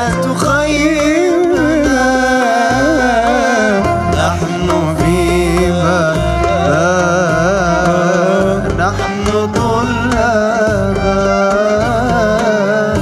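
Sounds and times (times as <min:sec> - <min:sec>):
instrumental accompaniment with bass: 0:00.0 - 0:13.0
man singing into a microphone: 0:00.0 - 0:13.0.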